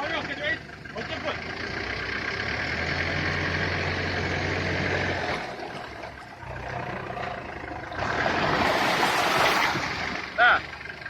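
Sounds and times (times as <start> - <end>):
vehicle engine idling: 0.0 - 8.6, 9.8 - 11.0.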